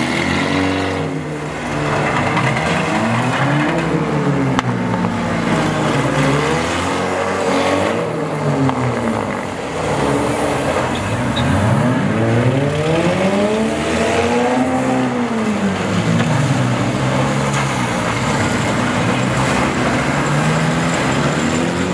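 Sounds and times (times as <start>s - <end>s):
car engines revving: 0.0s - 21.9s.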